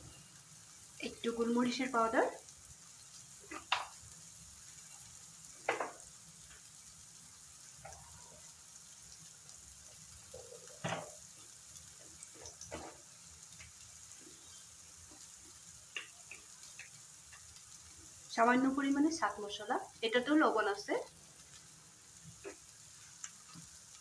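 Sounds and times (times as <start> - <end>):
onions frying in butter: 0.0 - 24.0.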